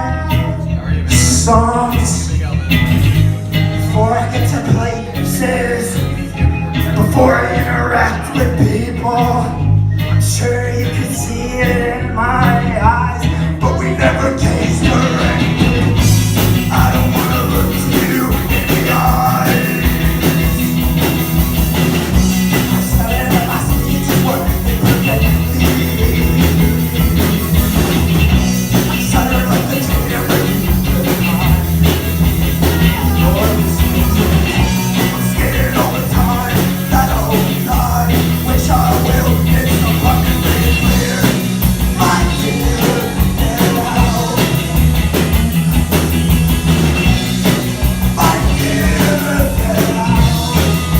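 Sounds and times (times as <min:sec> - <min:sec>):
rock band playing live: 0:00.0 - 0:50.9.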